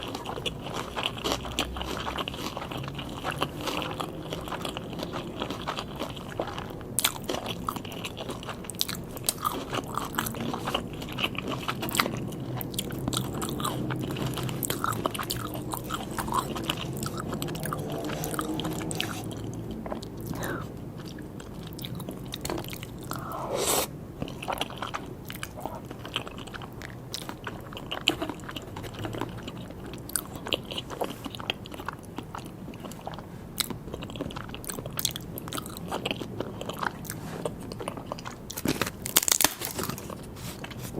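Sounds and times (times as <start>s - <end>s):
chewing food close up: 0.0s - 40.9s.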